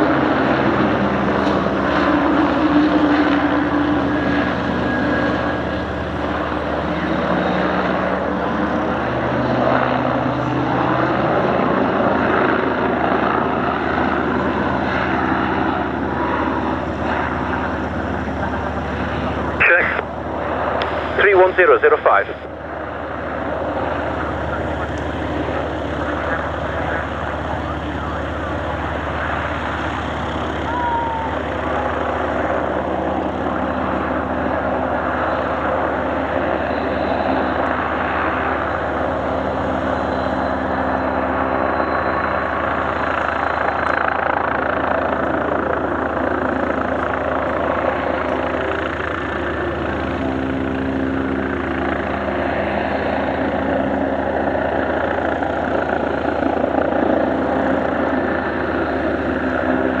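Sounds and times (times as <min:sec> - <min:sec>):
aircraft engine noise: 0:00.0 - 1:00.0.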